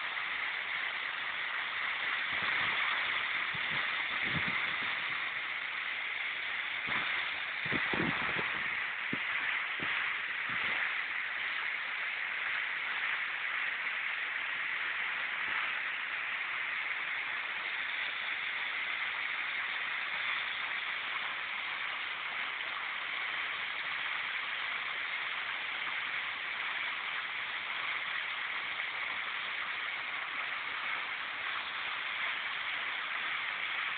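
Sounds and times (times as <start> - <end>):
waterfall splashing: 0.0 - 33.9.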